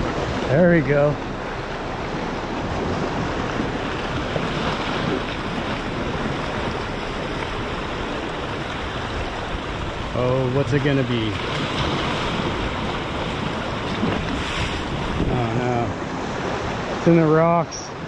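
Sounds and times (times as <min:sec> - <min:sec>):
wind on microphone: 0:00.0 - 0:17.0
surf breaking on rocks: 0:00.0 - 0:18.0.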